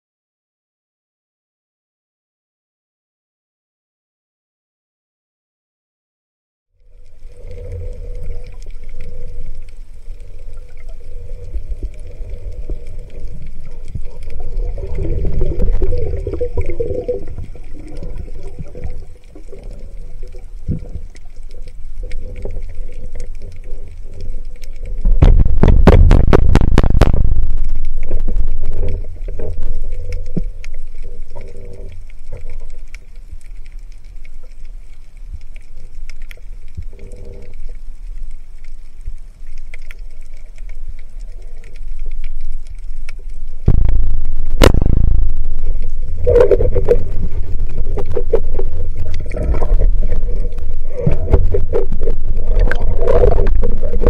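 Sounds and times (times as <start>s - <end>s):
muffled underwater water rumble: 6.7s - 54.0s.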